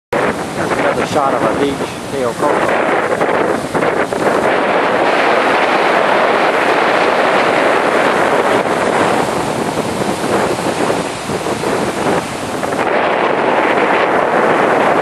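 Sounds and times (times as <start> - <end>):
strong wind buffeting microphone: 0.1 - 15.0
surf on beach: 0.2 - 15.0.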